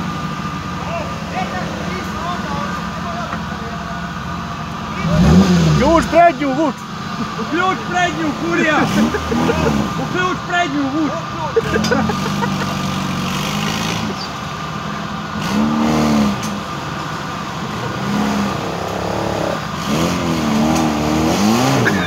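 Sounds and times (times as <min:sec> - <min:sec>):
car engine revving under load: 0:00.0 - 0:10.5, 0:11.6 - 0:22.0.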